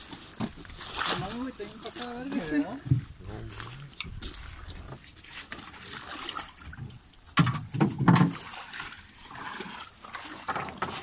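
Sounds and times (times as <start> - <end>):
shallow water sloshing on pebbles: 0.0 - 11.0.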